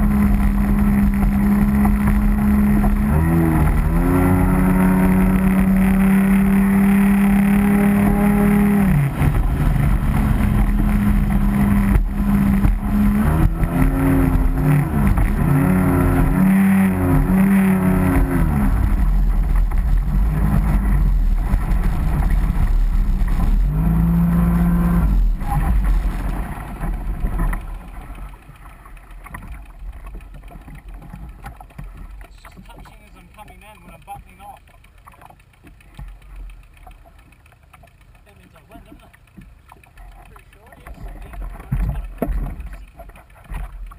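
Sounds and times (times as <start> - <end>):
boat engine running at high revs: 0.0 - 43.9.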